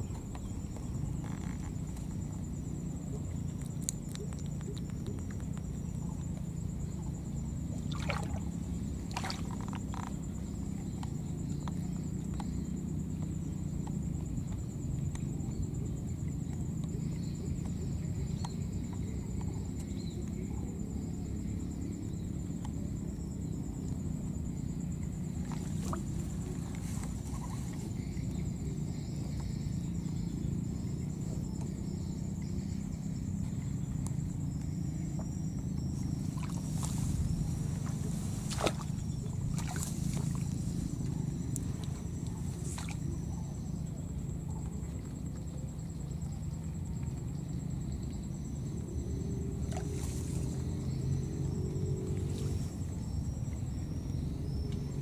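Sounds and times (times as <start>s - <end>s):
high-pitched insect trill: 0.0s - 55.0s.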